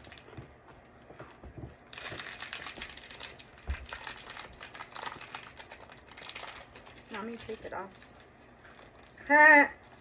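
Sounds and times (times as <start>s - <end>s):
plastic snack packet crinkling: 0.0s - 0.4s, 1.9s - 10.0s.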